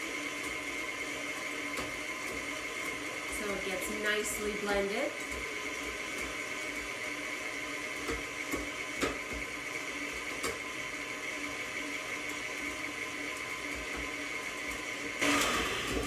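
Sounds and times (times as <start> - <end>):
stand mixer motor whine: 0.0 - 16.0.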